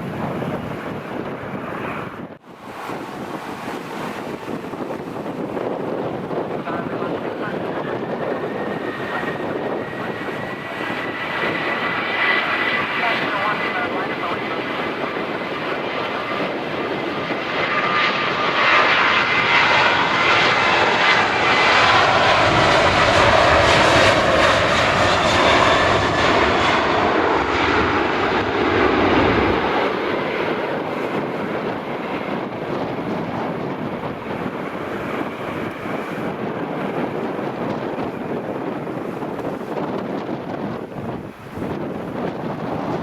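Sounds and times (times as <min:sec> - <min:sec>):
airliner engines passing overhead: 0:00.0 - 0:43.0.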